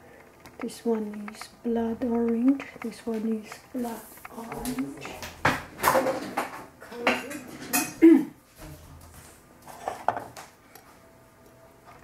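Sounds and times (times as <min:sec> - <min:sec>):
dishes and cutlery clinking: 0:00.3 - 0:10.4.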